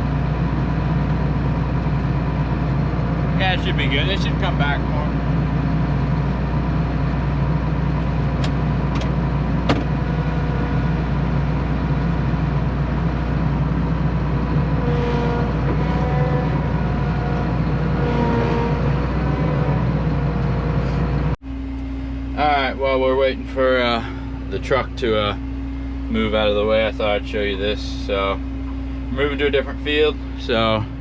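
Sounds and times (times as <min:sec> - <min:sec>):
combine harvester engine running: 0:00.0 - 0:31.0.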